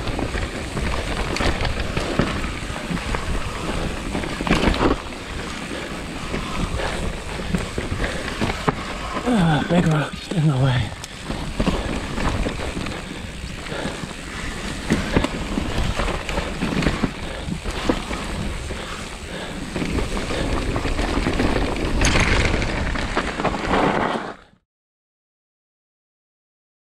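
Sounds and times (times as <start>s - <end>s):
bike knocking and rattling: 0.0s - 24.5s
bike tyres on dirt: 0.0s - 24.6s.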